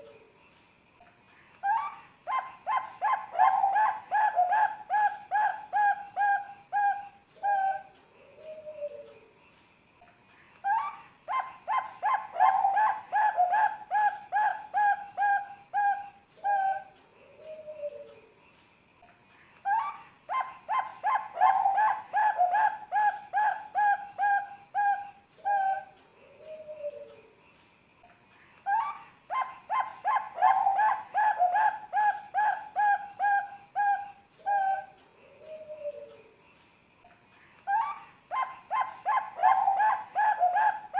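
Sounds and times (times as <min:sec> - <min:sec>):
dove cooing: 0:01.6 - 0:09.2, 0:10.7 - 0:18.2, 0:19.7 - 0:27.3, 0:28.7 - 0:36.3, 0:37.7 - 0:40.9.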